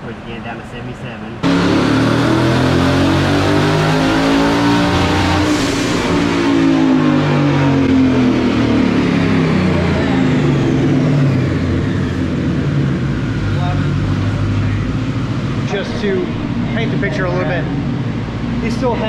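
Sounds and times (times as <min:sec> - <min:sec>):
car engine revving on a dyno: 0:01.4 - 0:19.0
high whine: 0:01.4 - 0:19.0.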